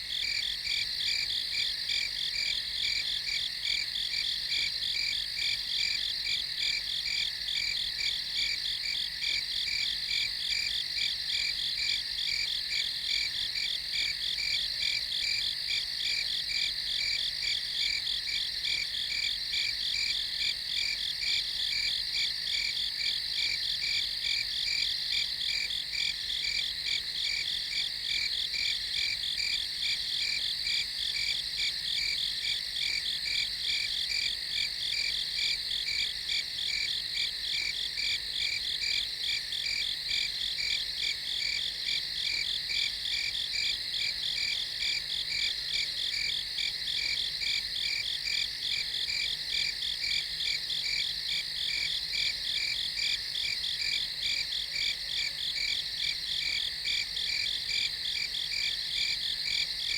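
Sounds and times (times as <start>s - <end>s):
crickets chirping: 5.8s - 59.9s.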